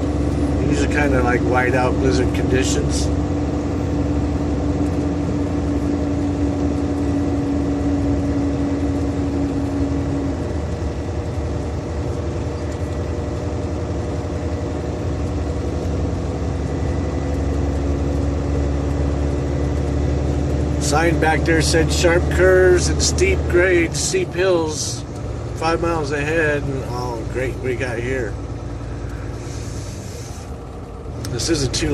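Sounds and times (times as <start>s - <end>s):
truck engine and road noise: 0.0s - 31.9s.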